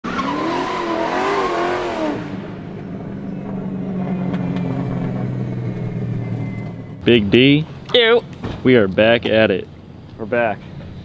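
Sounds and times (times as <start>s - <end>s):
car engine: 0.0s - 11.0s.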